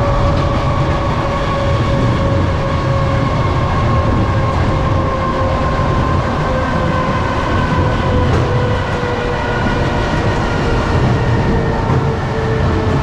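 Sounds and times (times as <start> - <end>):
train wheels rumbling on rails: 0.0 - 13.0
train whine: 0.0 - 13.0.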